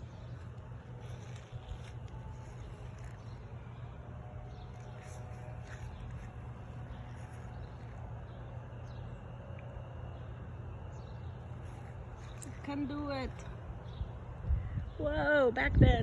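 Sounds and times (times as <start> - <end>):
low outdoor background rumble: 0.0 - 16.0.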